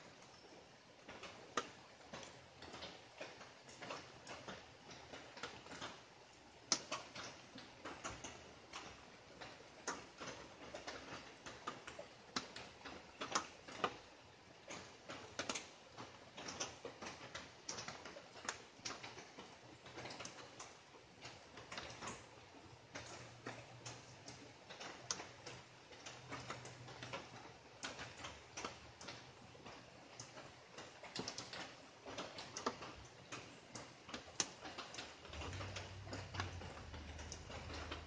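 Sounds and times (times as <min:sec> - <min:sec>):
rain drops tapping on leaves: 0:00.0 - 0:38.0.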